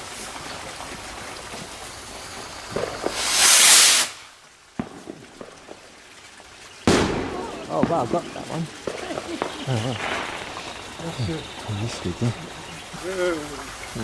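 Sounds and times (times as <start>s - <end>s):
firework cracks and bangs: 0.0s - 13.8s
firework rushing hiss: 0.0s - 14.0s.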